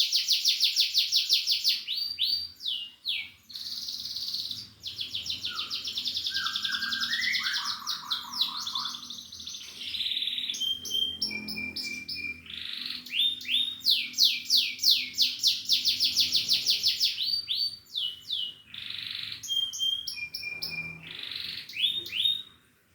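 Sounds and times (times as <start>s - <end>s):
canary singing trills: 0.0s - 22.5s.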